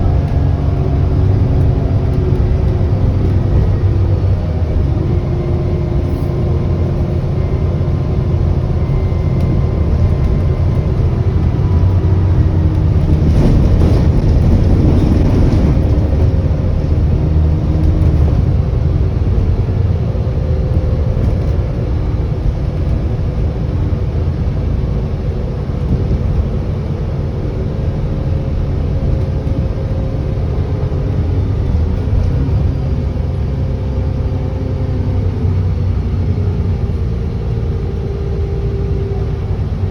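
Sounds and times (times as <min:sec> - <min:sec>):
rush of noise: 0:00.0 - 0:35.5
bus diesel engine running: 0:00.0 - 0:39.9
faint high turbo whine: 0:00.0 - 0:39.9.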